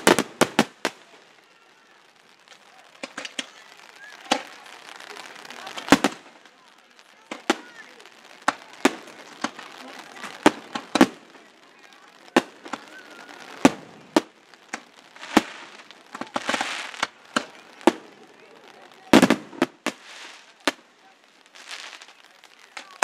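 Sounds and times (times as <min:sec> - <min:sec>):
fireworks bursting in sharp bangs: 0:00.0 - 0:23.0.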